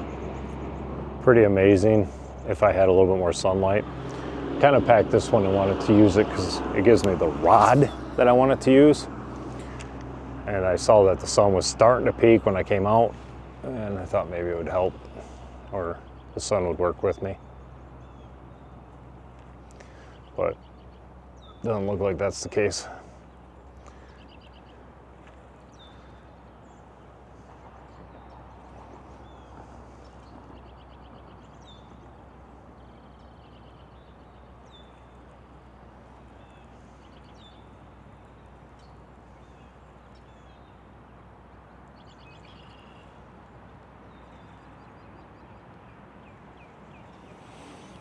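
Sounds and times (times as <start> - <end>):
songbirds chirping: 0.0 - 48.0
steady outdoor hiss: 0.0 - 48.0.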